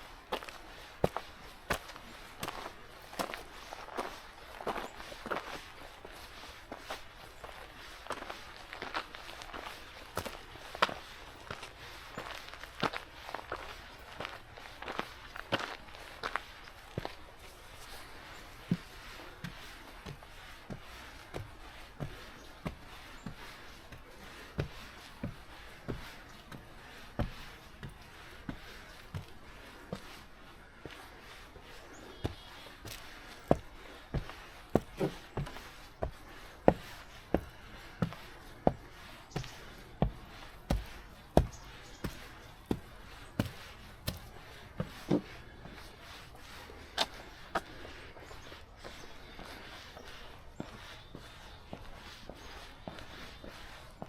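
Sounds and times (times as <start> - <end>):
footsteps on a path: 0.0 - 54.0.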